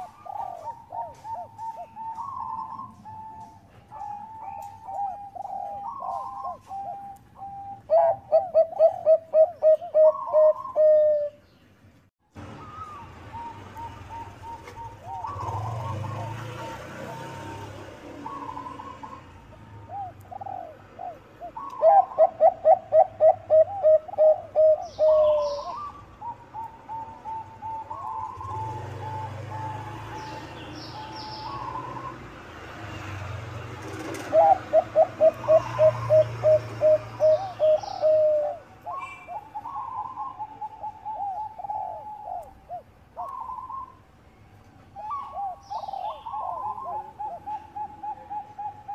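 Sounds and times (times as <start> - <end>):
doves cooing: 0.0 - 11.4, 12.4 - 44.1, 44.9 - 48.9
small birds chirping: 0.0 - 48.9.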